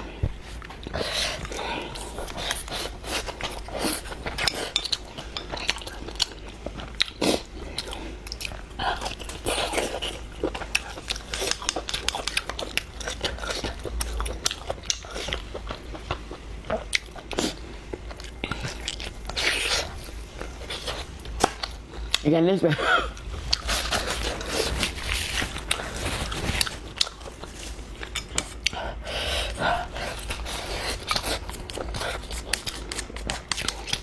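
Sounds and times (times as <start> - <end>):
person chewing and crunching food: 0.0 - 34.0.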